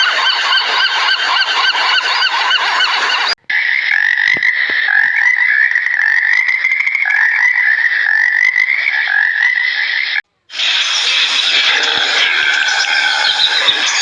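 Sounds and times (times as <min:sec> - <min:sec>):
chorus of frogs trilling: 0:00.0 - 0:14.0.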